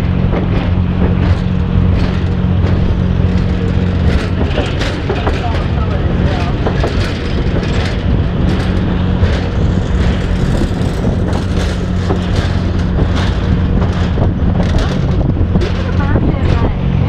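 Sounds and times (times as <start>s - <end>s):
clicks and rattles: 0.0s - 17.0s
vehicle rumble and hum: 0.0s - 17.0s.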